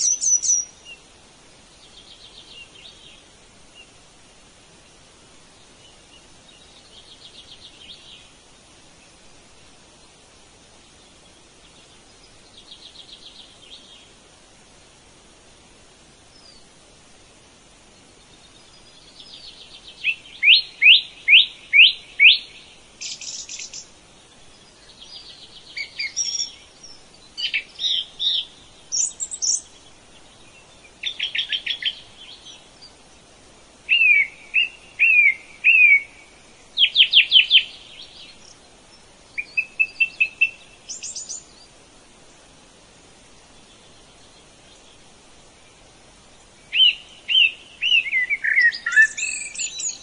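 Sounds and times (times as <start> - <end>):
songbird singing: 0.0 - 50.0.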